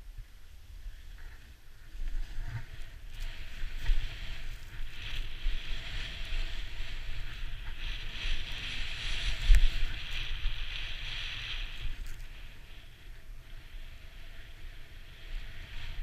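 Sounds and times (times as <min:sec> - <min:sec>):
wind buffeting microphone: 0:00.0 - 0:16.0
snowboard hissing through snow: 0:01.3 - 0:16.0.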